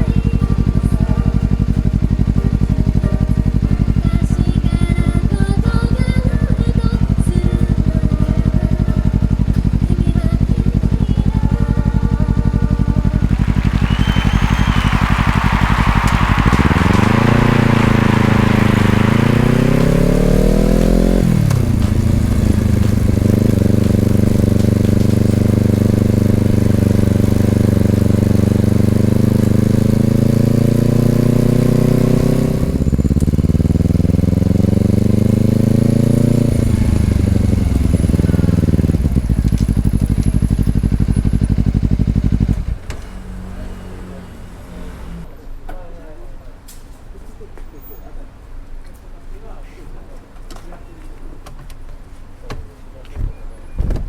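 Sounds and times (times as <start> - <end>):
motorcycle engine accelerating: 0.0 - 45.3.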